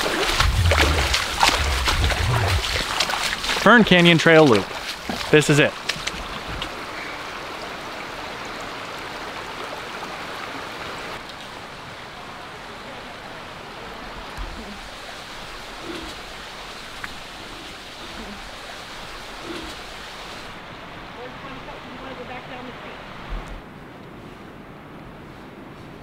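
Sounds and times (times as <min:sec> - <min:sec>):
creek rushing: 0:00.0 - 0:23.3.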